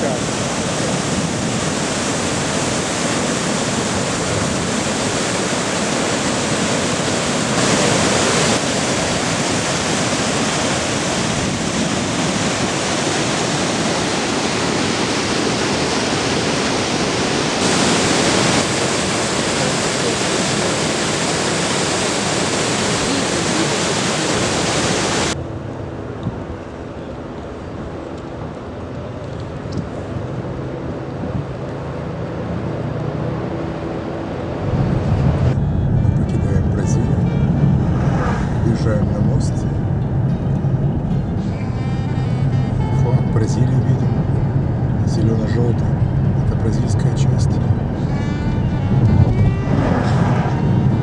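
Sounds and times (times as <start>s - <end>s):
waterfall roaring: 0.0s - 35.6s, 36.6s - 51.0s.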